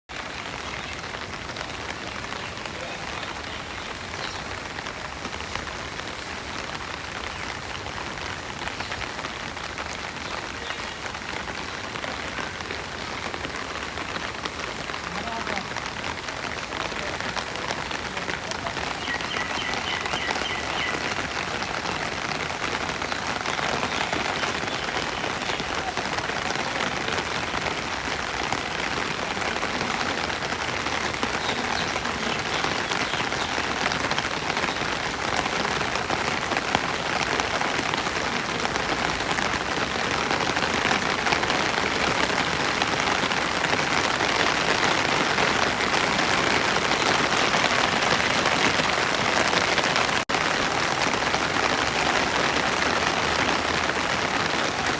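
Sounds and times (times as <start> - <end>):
steady rain falling: 0.1 - 54.9.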